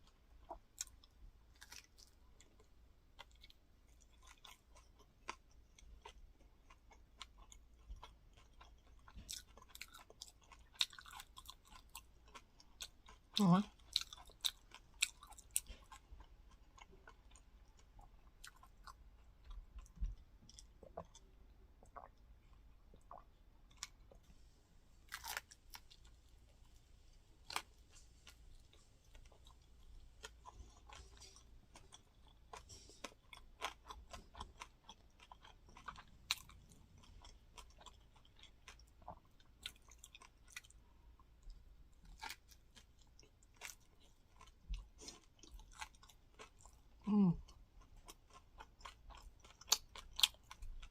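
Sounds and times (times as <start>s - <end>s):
chewing crunchy food: 0.0s - 24.4s, 25.0s - 50.9s.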